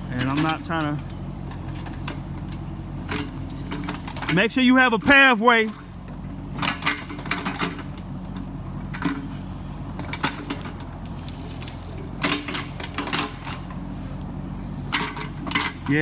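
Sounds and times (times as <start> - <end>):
excavator diesel engine running: 0.0 - 16.0
metallic clanks and knocks: 0.1 - 4.5, 5.6 - 14.0, 14.7 - 16.0.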